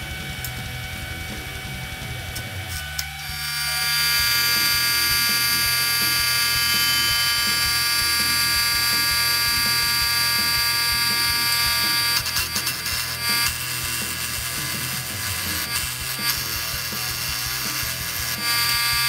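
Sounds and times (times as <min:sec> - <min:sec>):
welding arc buzzing hiss: 0:00.0 - 0:19.0.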